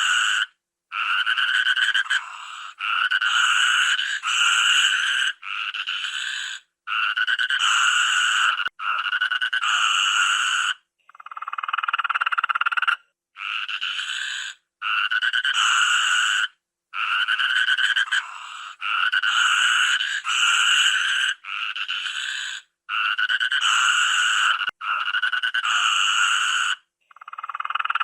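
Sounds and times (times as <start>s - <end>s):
toucan croaking calls: 0.0s - 28.0s.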